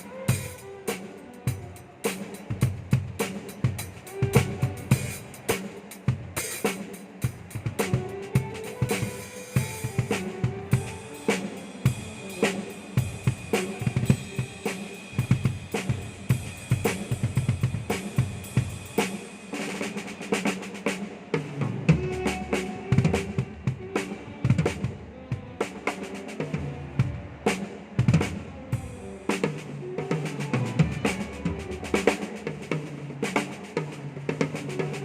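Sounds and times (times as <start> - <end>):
drum kit playing: 0.0 - 35.0.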